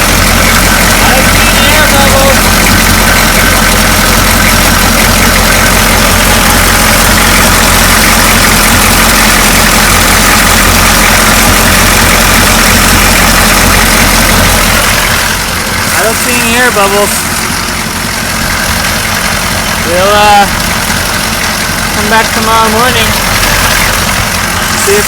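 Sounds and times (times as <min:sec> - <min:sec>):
diesel engine idling loudly: 0:00.0 - 0:25.0.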